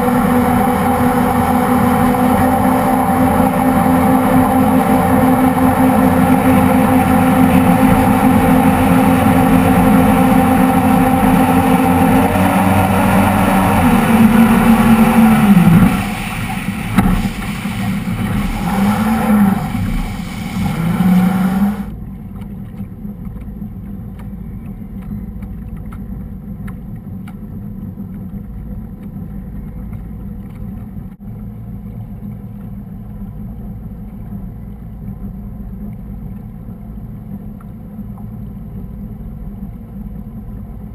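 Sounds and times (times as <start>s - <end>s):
motorboat engine: 0.0s - 40.9s
water rushing along hull: 0.0s - 40.9s.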